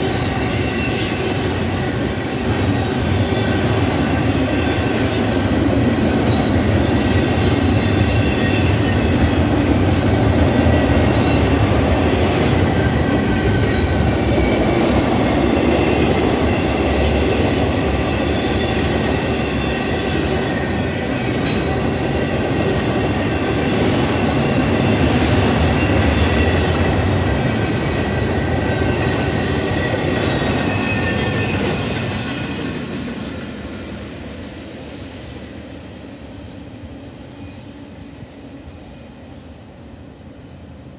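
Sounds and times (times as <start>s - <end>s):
train wheels rolling on rails: 0.0s - 40.9s.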